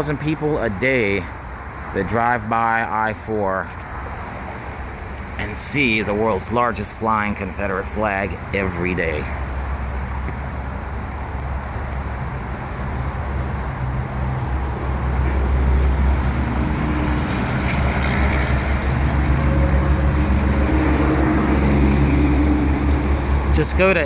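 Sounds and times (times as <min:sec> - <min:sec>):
highway traffic rushing: 0:00.0 - 0:24.0
steady engine hum: 0:00.0 - 0:24.0.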